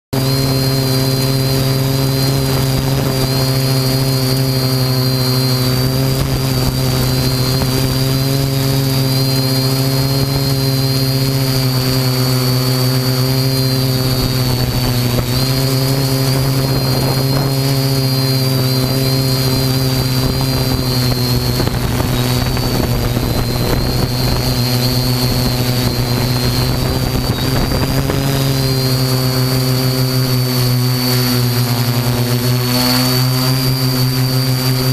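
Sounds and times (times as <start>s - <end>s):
drone motors whining: 0.2s - 34.9s.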